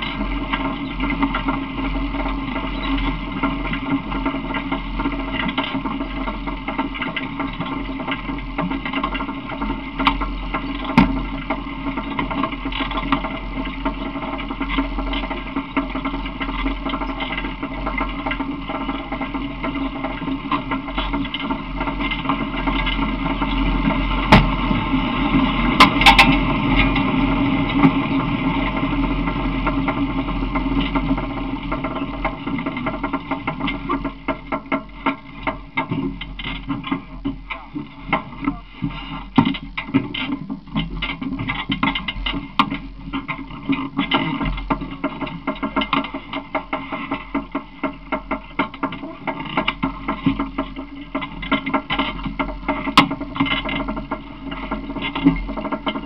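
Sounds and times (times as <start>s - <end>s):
small vehicle running with rattling: 0.0s - 56.0s.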